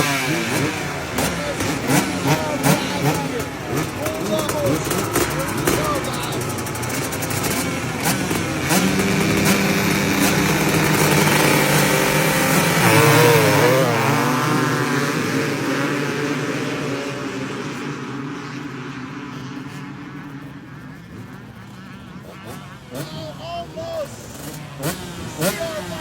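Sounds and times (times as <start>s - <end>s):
dirt bike engines revving high: 0.0s - 26.0s.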